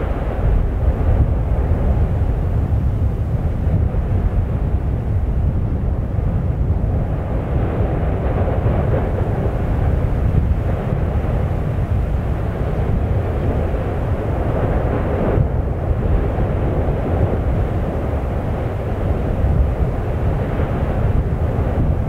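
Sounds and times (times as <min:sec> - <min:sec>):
volcano rumbling: 0:00.0 - 0:22.0.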